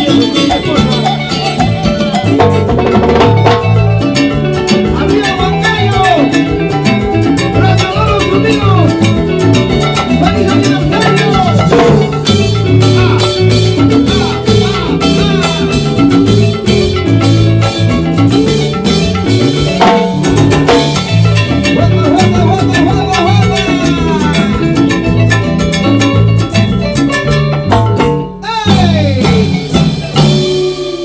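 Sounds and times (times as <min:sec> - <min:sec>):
live band playing latin dance music: 0:00.0 - 0:31.0.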